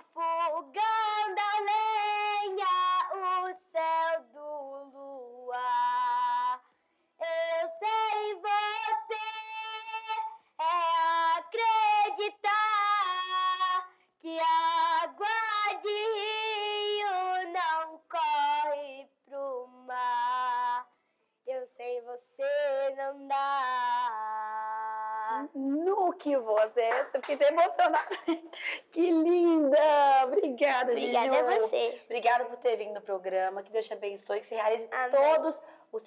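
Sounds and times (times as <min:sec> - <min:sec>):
girl singing unaccompanied: 0:00.0 - 0:26.9, 0:27.6 - 0:32.1.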